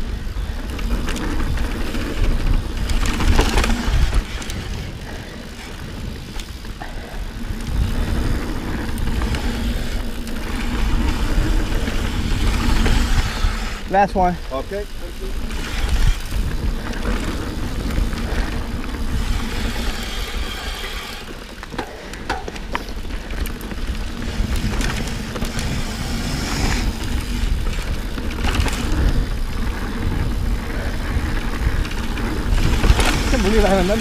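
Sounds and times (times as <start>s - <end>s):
bike tyres rolling on dirt trail: 0.0s - 34.0s
wind buffeting microphone: 0.0s - 34.0s.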